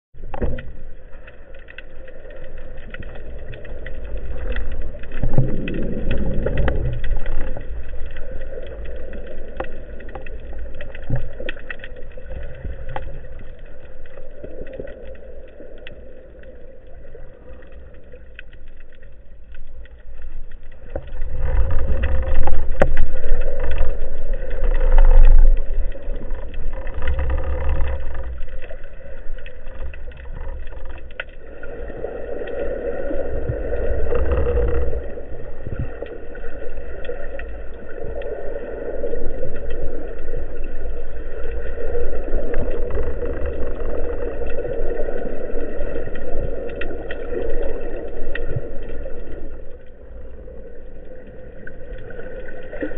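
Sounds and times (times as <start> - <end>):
muffled underwater rumble: 0.2 - 52.9.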